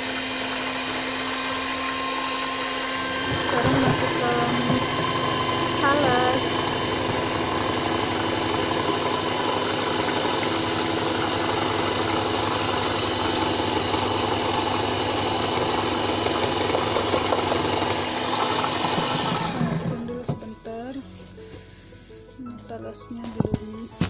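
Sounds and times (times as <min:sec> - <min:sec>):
electric hand mixer whisking: 0:00.0 - 0:20.8.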